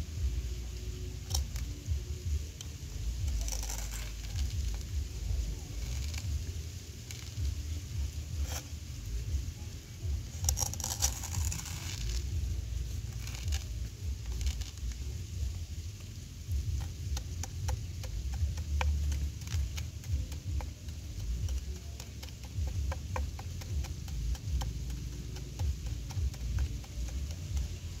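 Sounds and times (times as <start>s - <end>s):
low rumble: 0.0s - 28.0s
snail eggs crackling under plastic: 0.0s - 28.0s.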